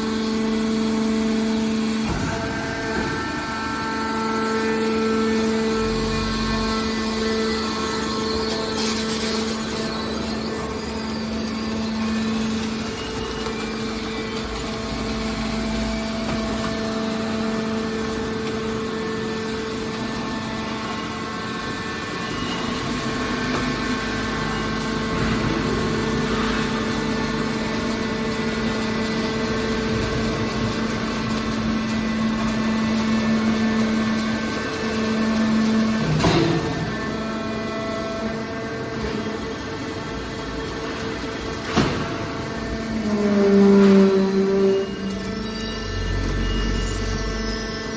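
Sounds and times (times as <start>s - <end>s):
hydraulic baler humming: 0.0s - 47.9s.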